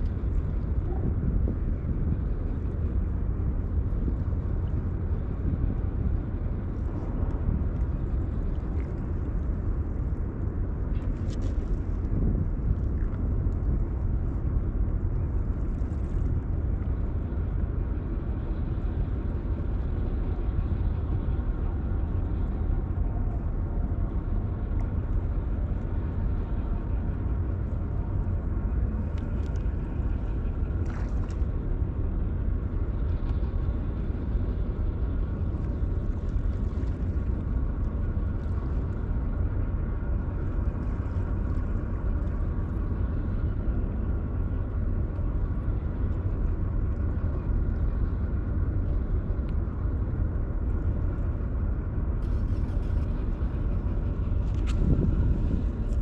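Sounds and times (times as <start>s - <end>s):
faint machinery hum: 0.0s - 56.0s
low harbour rumble: 0.0s - 56.0s.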